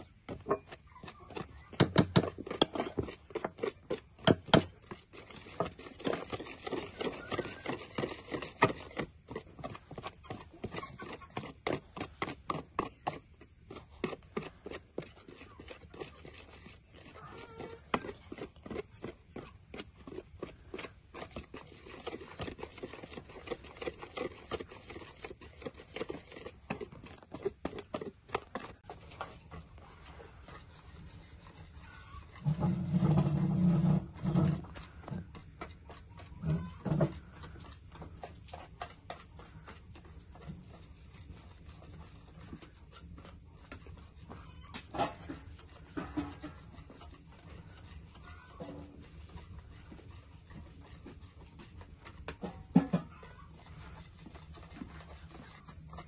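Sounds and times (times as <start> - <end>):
kitchen utensils tapping and scraping: 0.0 - 56.0.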